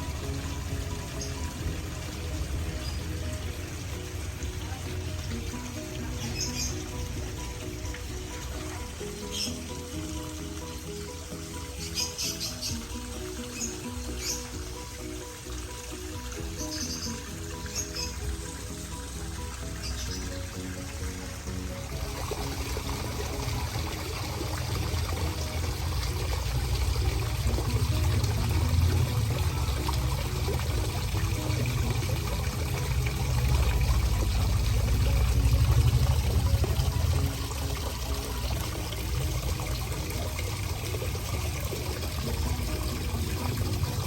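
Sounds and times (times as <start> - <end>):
water pouring and trickling: 0.0 - 44.0.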